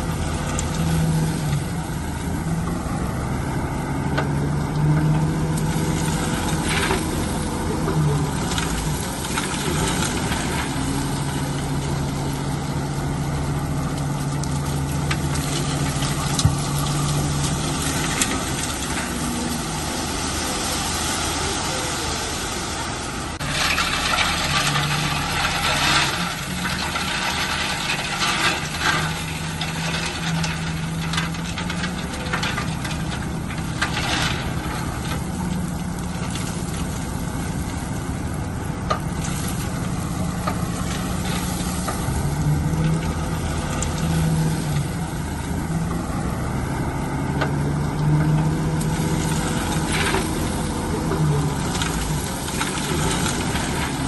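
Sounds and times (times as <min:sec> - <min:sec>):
bulldozer diesel engine: 0:00.0 - 0:54.0
loud rough noise: 0:00.0 - 0:54.0.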